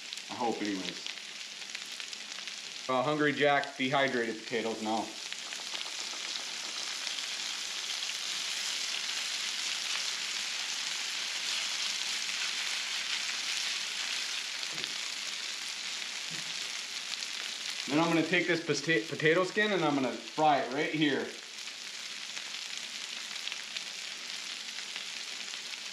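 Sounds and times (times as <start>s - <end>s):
hash browns sizzling on griddle: 0.0s - 25.9s.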